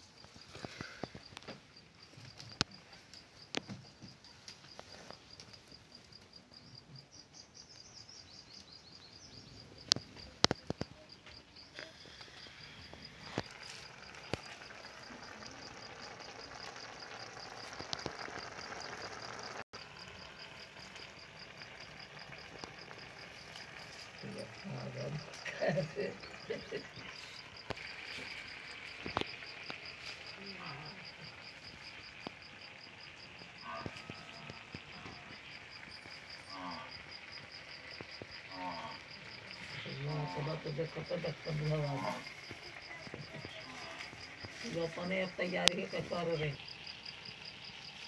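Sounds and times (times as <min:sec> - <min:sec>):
cricket chirping: 0:00.0 - 0:48.0.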